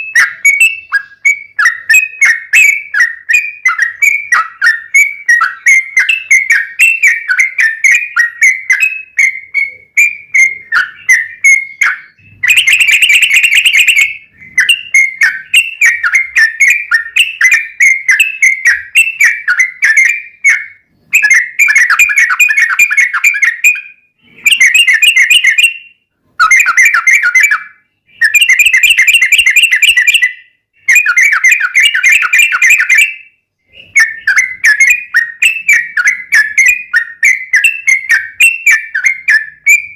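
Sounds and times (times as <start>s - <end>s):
bird song of whistled notes: 0.0s - 39.9s.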